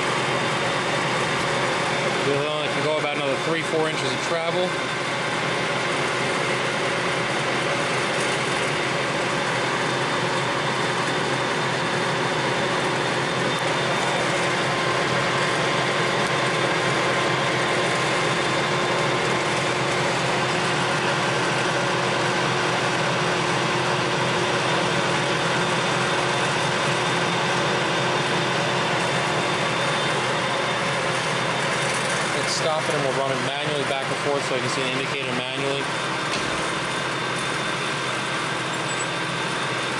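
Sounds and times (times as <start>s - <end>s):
lathe machine hum: 0.0s - 39.9s.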